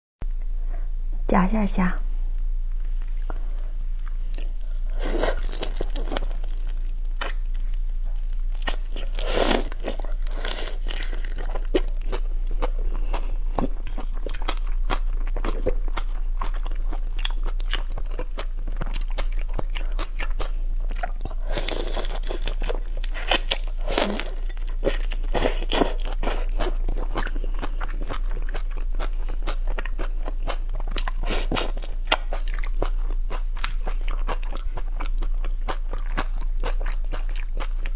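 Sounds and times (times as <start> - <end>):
chewing and crunching shrimp: 2.8 - 37.9.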